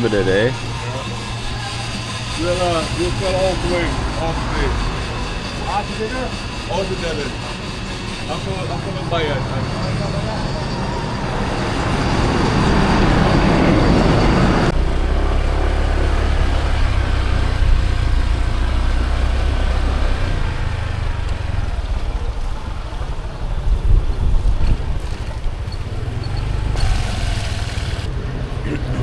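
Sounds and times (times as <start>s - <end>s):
loud vehicle engine noise: 0.0s - 29.0s.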